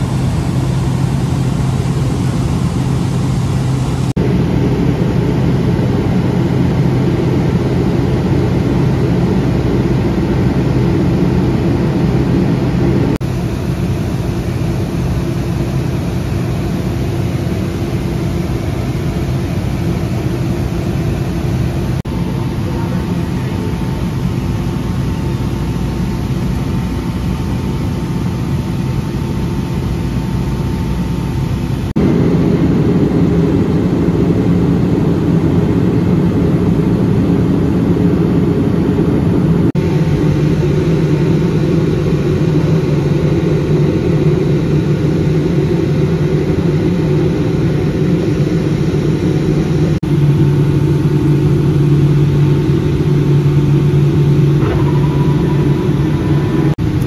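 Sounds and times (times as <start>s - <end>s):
jet engine roar in cabin: 0.0s - 57.0s
low drone: 0.0s - 57.0s.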